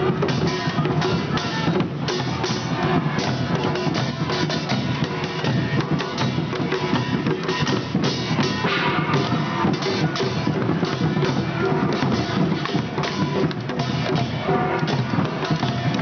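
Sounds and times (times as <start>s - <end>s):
drum troupe playing: 0.0s - 16.0s.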